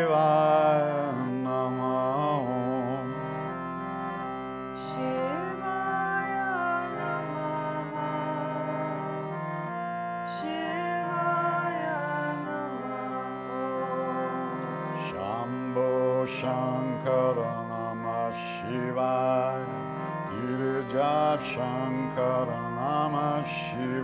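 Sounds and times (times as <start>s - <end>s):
harmonium chords: 0.0s - 24.0s.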